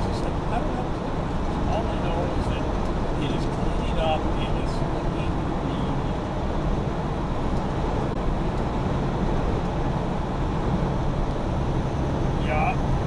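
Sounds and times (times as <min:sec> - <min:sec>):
truck engine and tyres droning: 0:00.0 - 0:13.0.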